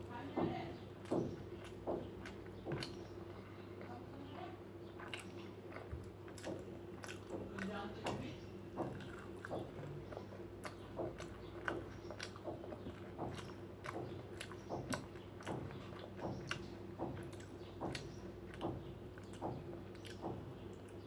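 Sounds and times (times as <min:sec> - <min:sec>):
person chewing food: 0:00.8 - 0:21.0.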